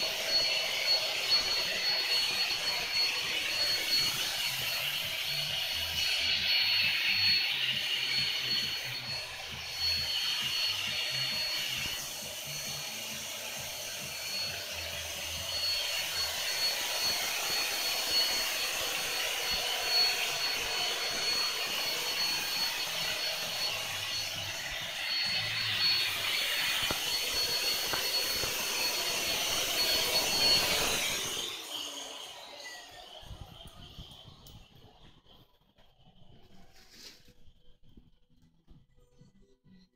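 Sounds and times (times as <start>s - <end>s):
electric blower whining: 0.0s - 35.4s.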